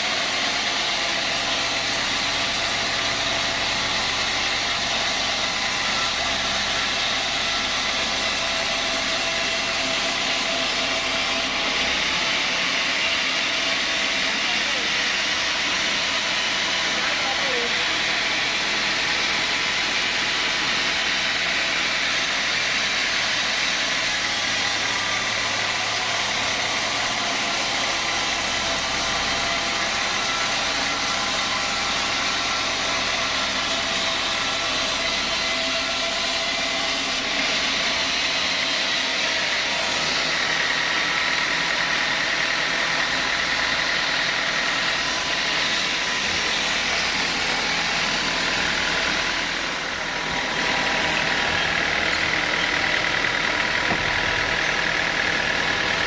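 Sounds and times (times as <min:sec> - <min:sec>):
saw whining: 0:00.0 - 0:56.0
sawmill machinery humming: 0:00.0 - 0:56.0.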